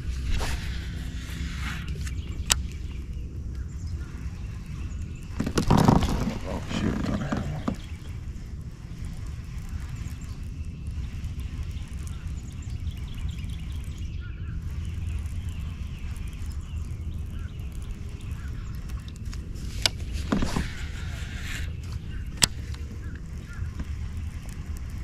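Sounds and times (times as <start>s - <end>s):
low wind rumble: 0.0s - 25.0s
faint bird chirps: 0.8s - 25.0s.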